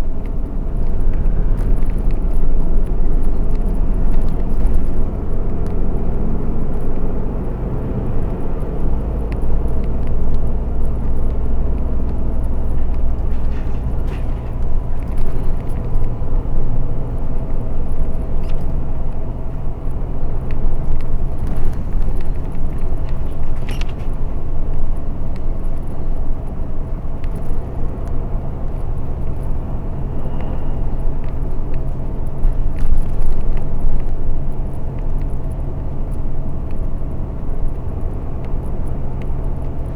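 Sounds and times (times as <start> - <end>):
bus engine drone: 0.0 - 39.9
road noise: 0.0 - 39.9.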